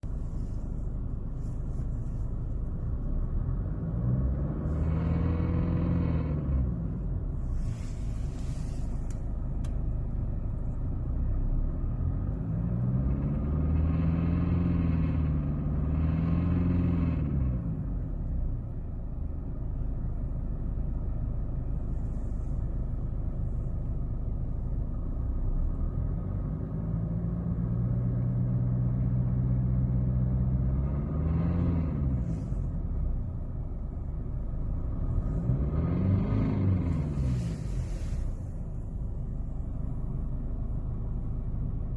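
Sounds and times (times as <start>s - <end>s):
car drivetrain rumbling: 0.0s - 41.9s.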